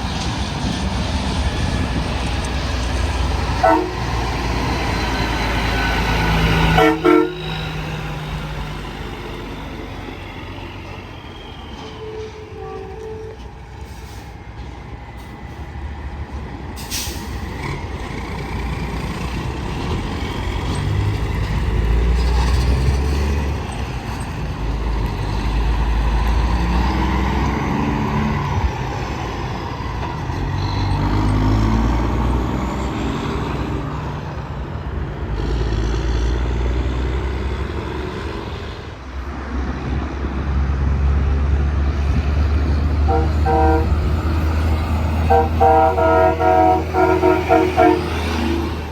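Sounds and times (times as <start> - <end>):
heavy trucks passing: 0.0 - 48.9.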